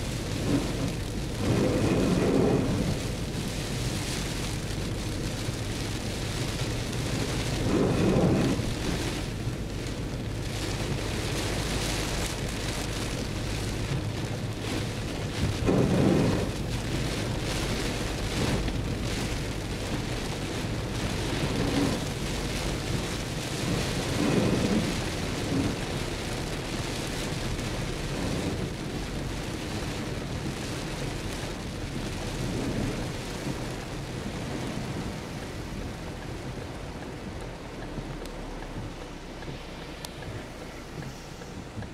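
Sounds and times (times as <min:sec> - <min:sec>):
heavy rain on car roof: 0:00.0 - 0:41.9
low rumbles: 0:00.0 - 0:41.9.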